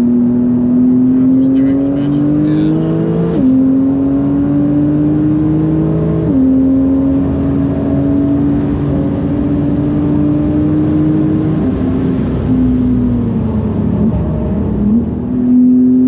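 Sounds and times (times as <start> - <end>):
car engine accelerating with upshifts: 0.0 - 16.0.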